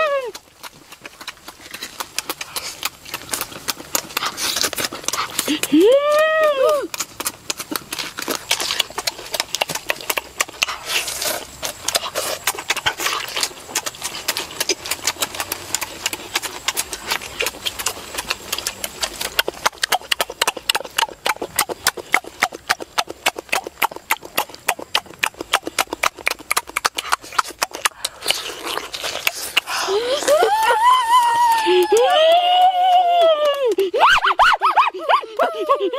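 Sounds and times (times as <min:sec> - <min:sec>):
chewing with mouth open: 0:00.0 - 0:35.9.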